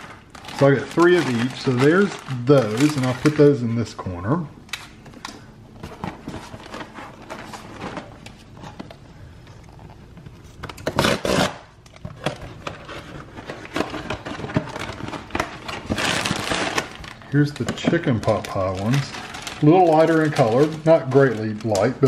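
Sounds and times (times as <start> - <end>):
packaging rustling: 0.0 - 3.8, 4.7 - 22.0.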